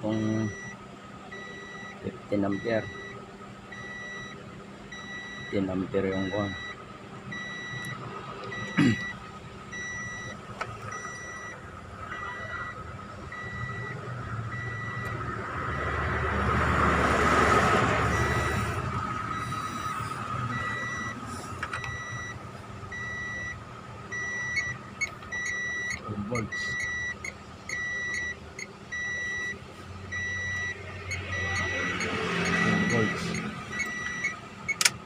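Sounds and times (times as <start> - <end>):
electronic warning beep: 0.0 - 16.0, 18.0 - 21.2, 21.8 - 34.9.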